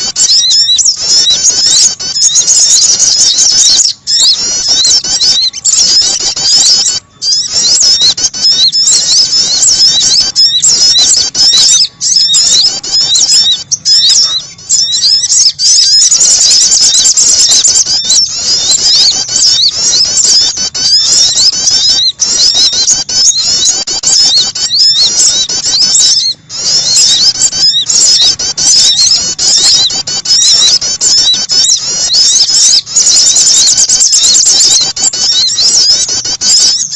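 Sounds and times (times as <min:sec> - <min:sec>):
songbirds chirping and trilling: 0:00.0 - 0:36.9.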